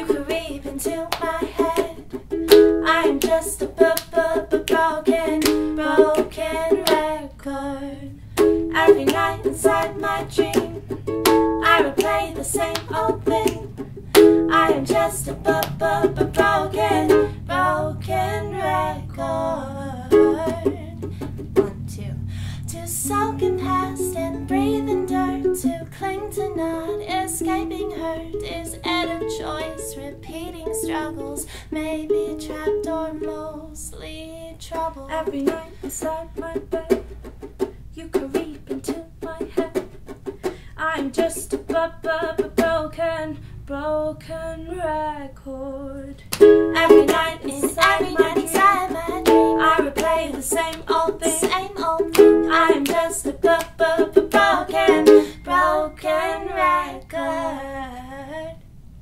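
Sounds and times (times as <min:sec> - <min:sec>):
ukulele strumming: 0:00.0 - 0:07.3, 0:08.3 - 0:43.3, 0:46.3 - 0:57.7
women singing: 0:00.0 - 0:37.1, 0:38.0 - 0:39.9, 0:40.8 - 0:58.6.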